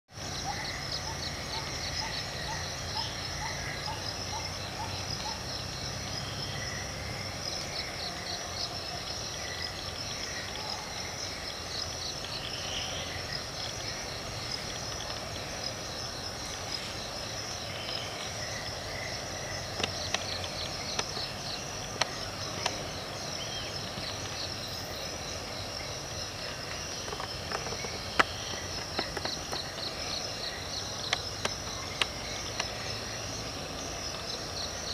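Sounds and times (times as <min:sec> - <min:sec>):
insect chorus drone: 0:00.1 - 0:34.9.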